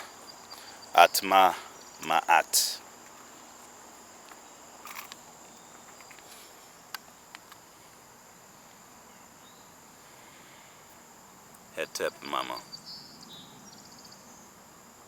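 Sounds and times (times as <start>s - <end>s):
insects droning: 0.0s - 15.0s
rustle: 0.0s - 15.0s.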